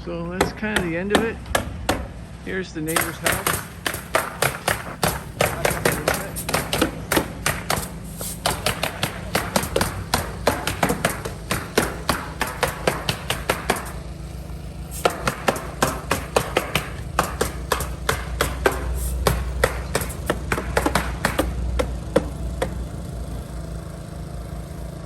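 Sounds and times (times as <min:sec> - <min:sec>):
hammer strikes: 0:00.4 - 0:02.2, 0:02.9 - 0:14.1, 0:15.0 - 0:22.9.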